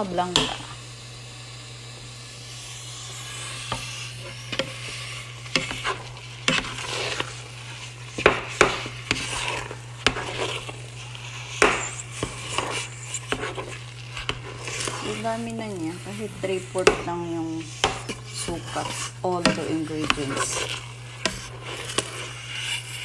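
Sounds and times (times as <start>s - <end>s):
spoon stirring thick pudding: 3.6s - 23.0s.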